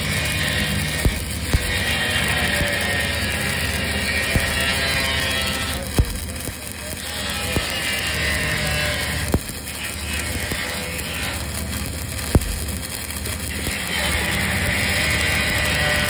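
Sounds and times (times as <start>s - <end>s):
welding arc crackling sizzle: 0.0s - 16.0s
welding arc sharp pops: 0.0s - 16.0s.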